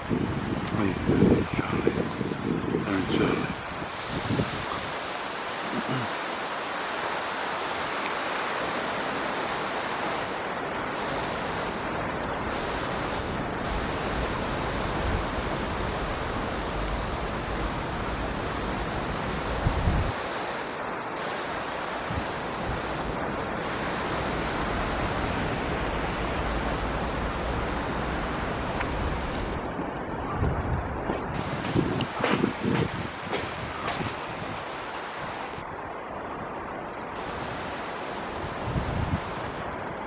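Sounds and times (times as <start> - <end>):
wind buffeting microphone: 0.0 - 6.1, 8.7 - 20.4, 21.1 - 40.0
heavy rain: 0.0 - 40.0.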